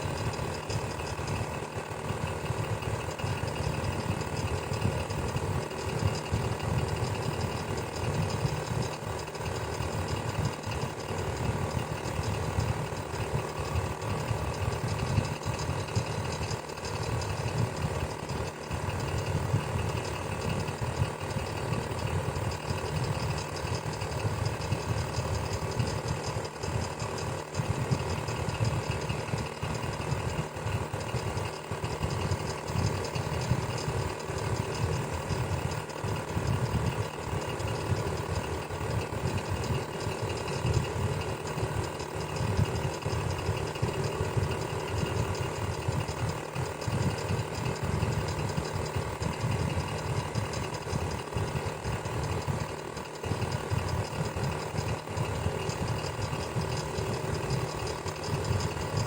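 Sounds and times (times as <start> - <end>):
electric fan humming: 0.0 - 59.0.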